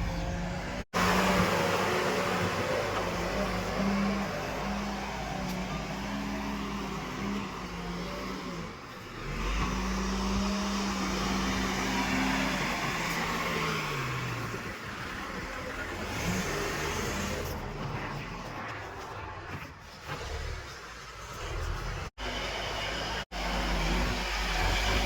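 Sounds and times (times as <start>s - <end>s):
diesel engine revving: 0.0s - 18.7s, 20.0s - 25.0s.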